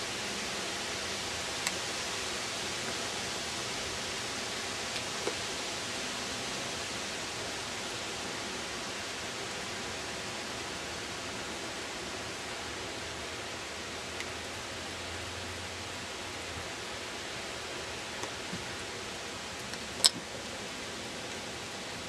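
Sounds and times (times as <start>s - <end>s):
snowstorm hiss: 0.0s - 22.0s.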